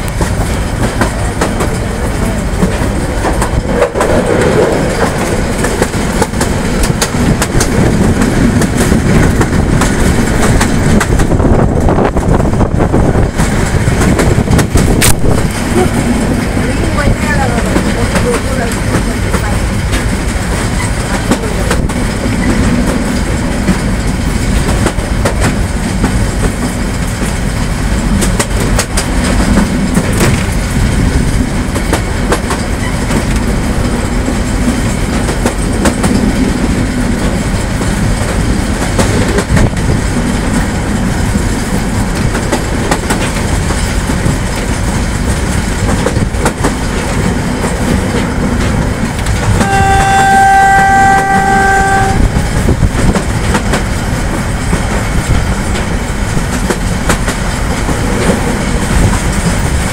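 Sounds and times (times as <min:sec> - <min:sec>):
rumble of train wheels on track: 0:00.0 - 0:59.9
wheels clicking over rail joints: 0:00.0 - 0:59.9.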